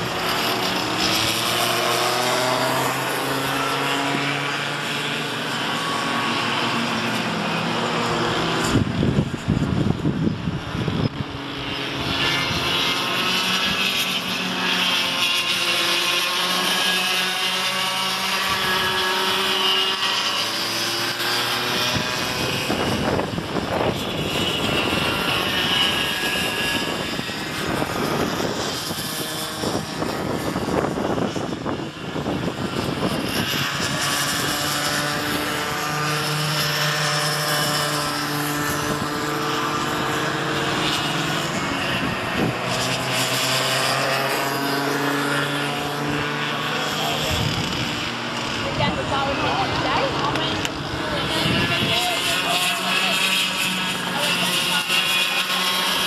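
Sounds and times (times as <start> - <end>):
go-kart engines buzzing past: 0.0 - 56.0.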